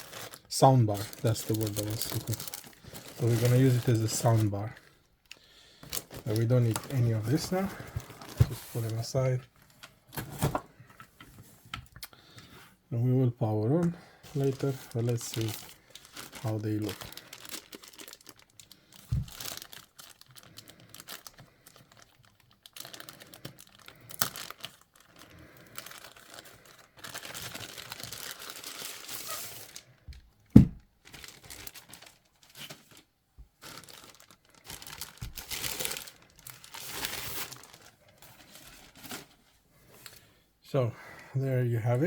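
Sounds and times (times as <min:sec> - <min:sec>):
packaging crinkling and rustling: 0:00.0 - 0:10.7, 0:13.8 - 0:40.2.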